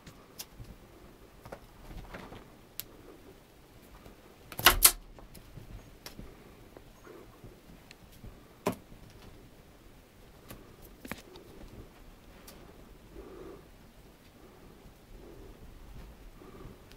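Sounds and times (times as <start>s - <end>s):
faint rustles and ticks: 0.0s - 4.5s, 5.1s - 16.9s.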